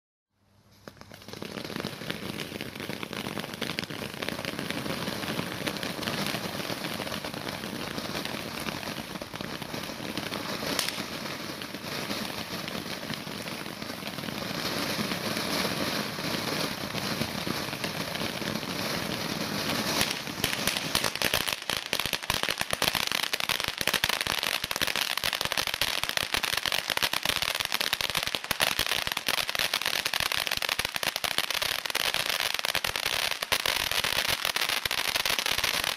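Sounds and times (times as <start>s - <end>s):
firework crackling and popping: 0.5s - 35.9s
firework spraying hiss: 0.8s - 35.9s.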